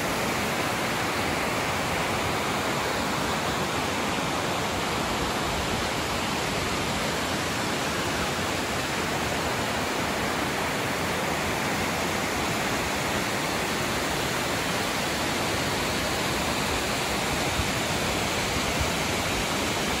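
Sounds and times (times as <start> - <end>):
rushing flowing water: 0.0 - 20.0.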